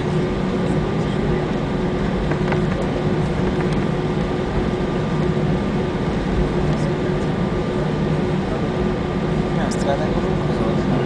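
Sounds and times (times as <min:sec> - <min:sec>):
aircraft cabin engine drone: 0:00.0 - 0:11.0
high steady whine: 0:00.0 - 0:11.0.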